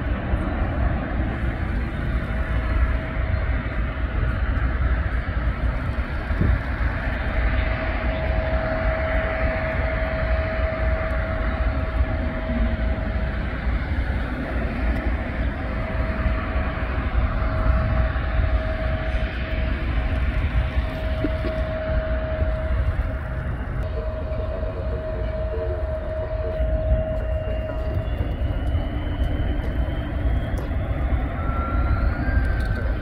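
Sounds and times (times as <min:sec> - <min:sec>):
jet engines taxiing: 0:00.0 - 0:33.0.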